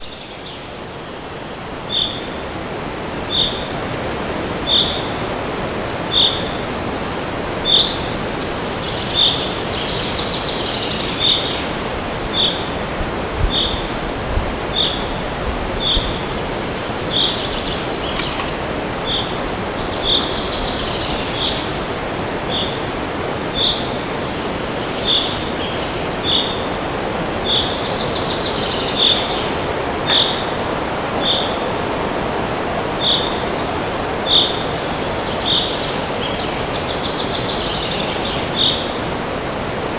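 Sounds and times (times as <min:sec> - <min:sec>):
bird twittering song: 0:00.0 - 0:03.8, 0:04.6 - 0:22.9, 0:23.5 - 0:26.8, 0:27.4 - 0:31.6, 0:32.9 - 0:39.0
wind rushing through trees: 0:00.0 - 0:39.9.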